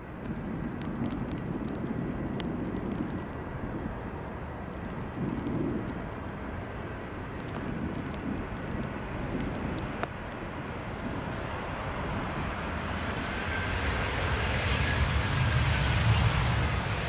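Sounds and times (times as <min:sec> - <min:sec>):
faint engine whine: 0:00.0 - 0:17.0
jet airliner engines rumbling: 0:00.0 - 0:17.0.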